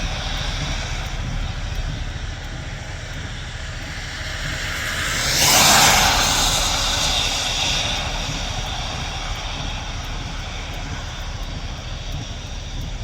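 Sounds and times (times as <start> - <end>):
loud hissing rush: 0.0 - 13.0
road noise: 0.0 - 13.0
steady rain: 0.0 - 13.0
wind rumbling on microphone: 0.0 - 13.0.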